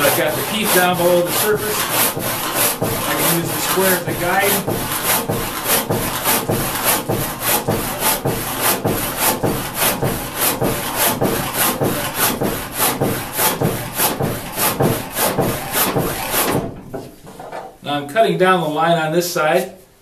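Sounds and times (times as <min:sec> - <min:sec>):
handsaw cutting timber: 0:00.0 - 0:16.8.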